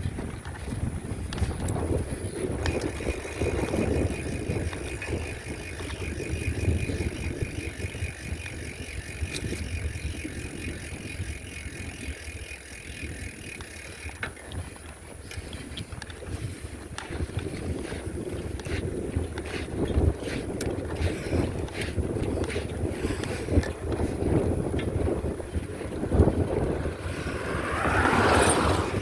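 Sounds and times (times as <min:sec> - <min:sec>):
wind rumbling on microphone: 0:00.0 - 0:29.0
bicycle freewheel ticking: 0:00.2 - 0:29.0.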